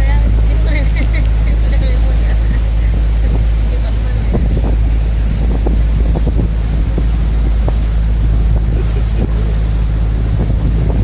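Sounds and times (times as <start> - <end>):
boat motor humming: 0.0 - 11.0
wind rumbling on microphone: 0.0 - 11.0.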